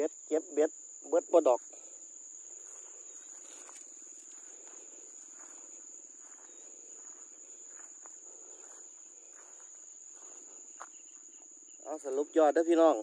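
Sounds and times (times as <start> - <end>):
insects trilling: 0.0 - 13.0
soft footsteps on grass: 1.4 - 13.0.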